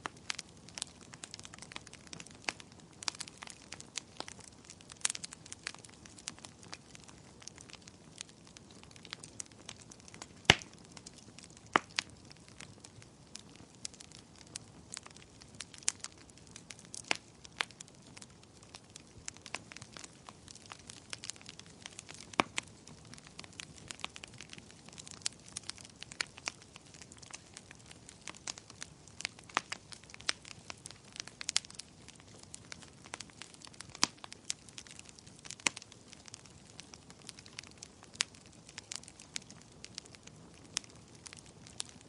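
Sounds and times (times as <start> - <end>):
wood fire pops and snaps: 0.0 - 42.0.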